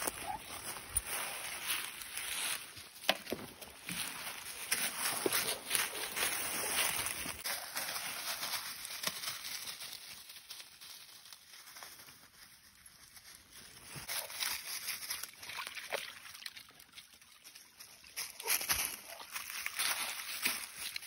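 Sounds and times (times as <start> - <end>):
puppies rustling in dry leaves: 0.0 - 15.6, 17.4 - 21.0.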